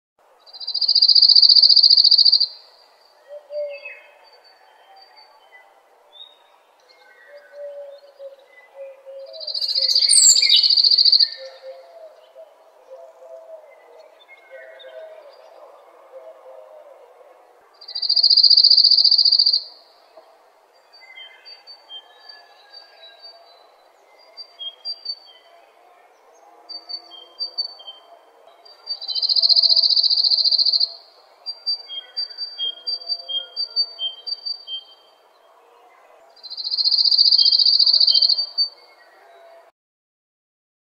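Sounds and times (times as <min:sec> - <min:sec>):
faint birdsong chirps: 0:00.3 - 0:39.7.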